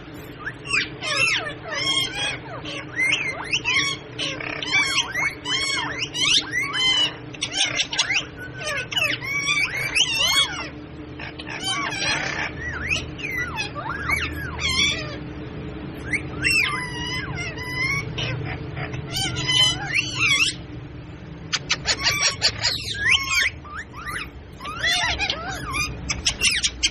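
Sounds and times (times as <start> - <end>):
steady low hum: 0.0 - 26.9
parrot calling: 0.1 - 20.6, 21.4 - 26.9.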